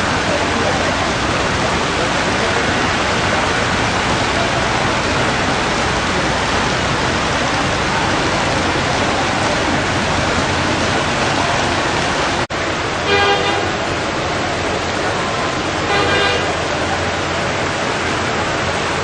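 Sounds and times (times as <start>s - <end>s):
heavy rain on flooded street: 0.0s - 19.0s.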